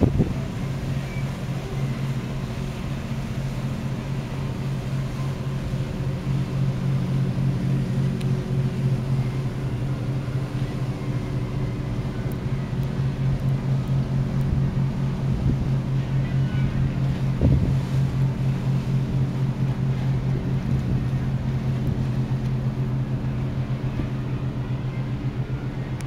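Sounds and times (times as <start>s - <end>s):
boat diesel engines droning: 0.0s - 26.0s
water wash: 0.0s - 26.0s
wind: 0.0s - 26.0s.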